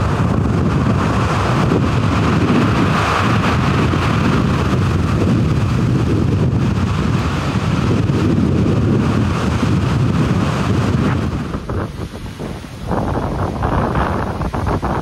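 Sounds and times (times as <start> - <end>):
storm wind buffeting microphone: 0.0 - 15.0
surf breaking on shore: 0.0 - 15.0.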